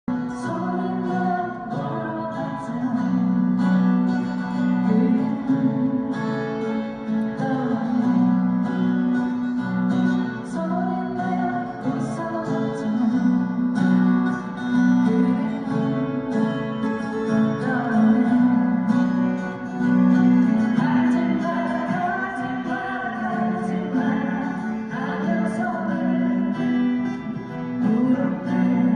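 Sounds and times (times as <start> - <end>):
acoustic guitars strumming: 0.0 - 28.9.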